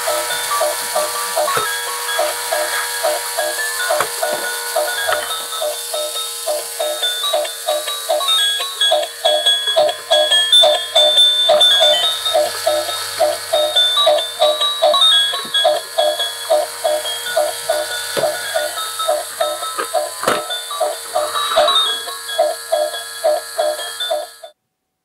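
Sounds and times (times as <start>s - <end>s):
small motor hiss: 0.0s - 24.5s
electronic toy tune with beeping: 0.0s - 24.6s.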